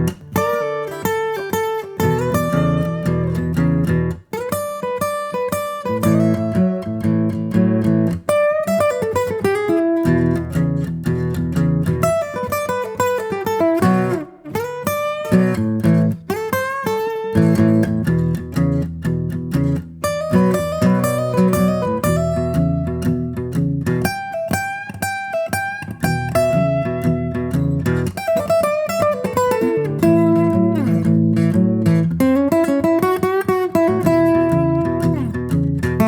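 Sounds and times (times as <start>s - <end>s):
plucked acoustic guitar music: 0.0s - 36.0s.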